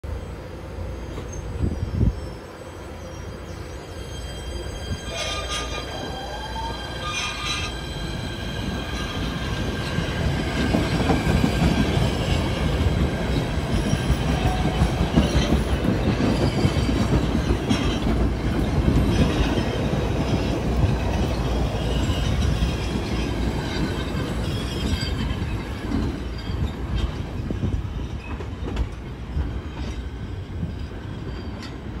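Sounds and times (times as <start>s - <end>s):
electric train whine: 0.1s - 32.0s
train wheels rumbling on rails: 0.1s - 32.0s.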